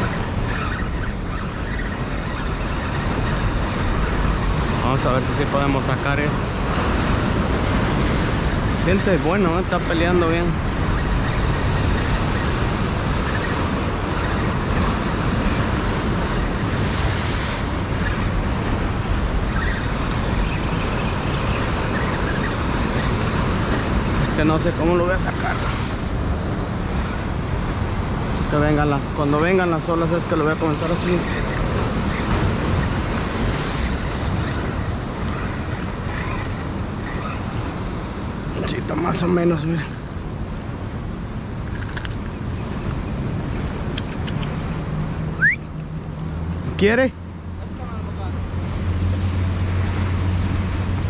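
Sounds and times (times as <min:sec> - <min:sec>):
ocean waves breaking on rocks: 0:00.0 - 0:51.0
wind buffeting microphone: 0:00.0 - 0:51.0.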